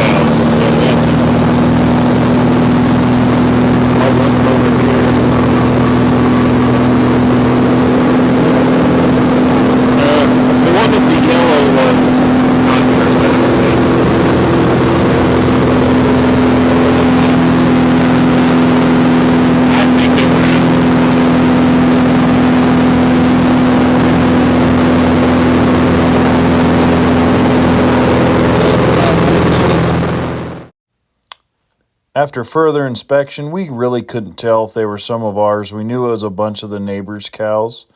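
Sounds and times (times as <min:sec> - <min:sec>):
propeller airplane engine drone: 0:00.0 - 0:30.7.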